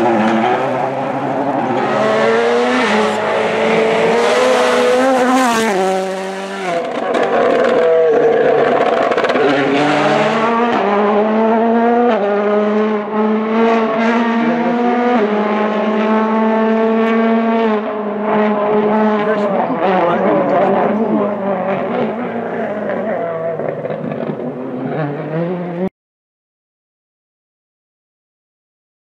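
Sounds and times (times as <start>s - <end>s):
rally car engine accelerating: 0.0s - 25.9s.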